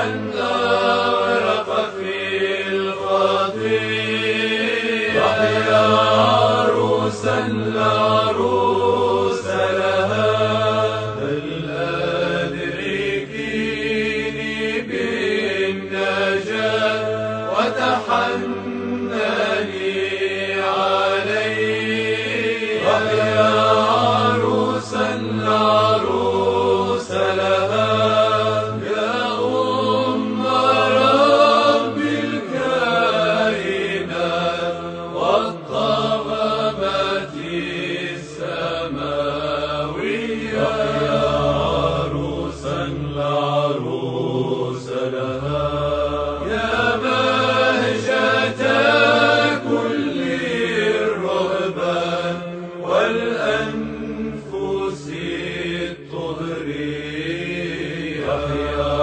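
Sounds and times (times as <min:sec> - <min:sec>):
sung chant melody: 0:00.0 - 0:59.0.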